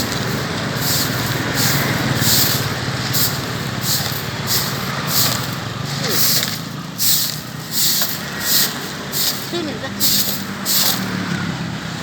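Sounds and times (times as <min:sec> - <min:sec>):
brooms sweeping grit on pavement: 0:00.0 - 0:11.5
vehicle engine idling: 0:00.0 - 0:12.0.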